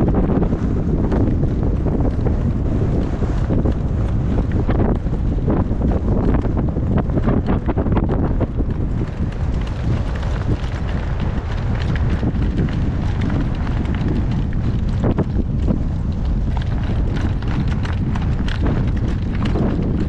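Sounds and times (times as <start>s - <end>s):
horse hoofbeats clopping: 0.0s - 20.0s
wind buffeting microphone: 0.0s - 20.0s.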